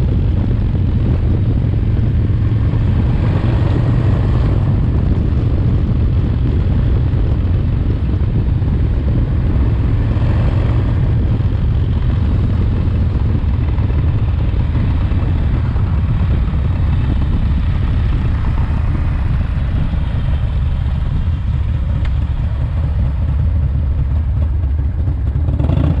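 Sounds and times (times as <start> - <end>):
motorcycle engine droning: 0.0 - 26.0.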